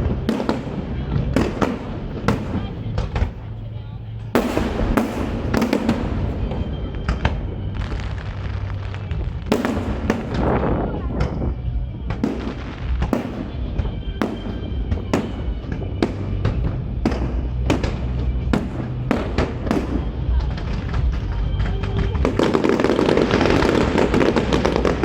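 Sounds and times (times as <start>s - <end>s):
fireworks bangs and crackling: 0.0s - 25.0s
music playing: 0.0s - 25.0s.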